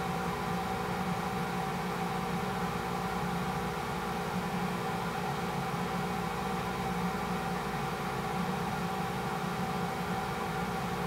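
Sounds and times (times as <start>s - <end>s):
steady hum and hiss: 0.0s - 11.0s.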